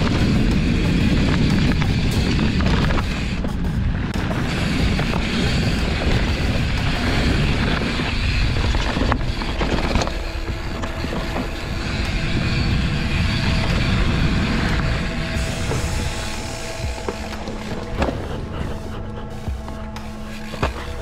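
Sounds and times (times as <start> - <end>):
bike knocks and rattles: 0.0 - 18.5, 20.4 - 21.0
tyres rumbling on dirt: 0.0 - 21.0
wind buffeting microphone: 0.0 - 21.0.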